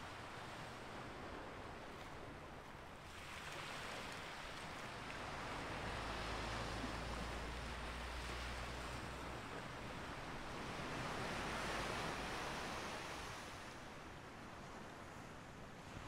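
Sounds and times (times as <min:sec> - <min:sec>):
sea waves washing on shore: 0:00.0 - 0:16.0.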